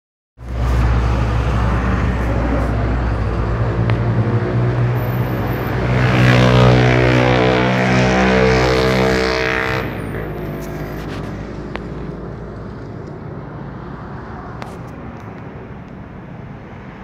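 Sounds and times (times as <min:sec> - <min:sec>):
military aircraft engines droning: 0:00.5 - 0:16.7.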